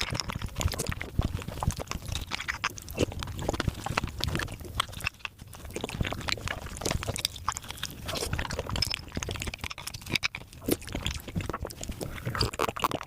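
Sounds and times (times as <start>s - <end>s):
sped-up chewing and slurping: 0.0s - 13.0s.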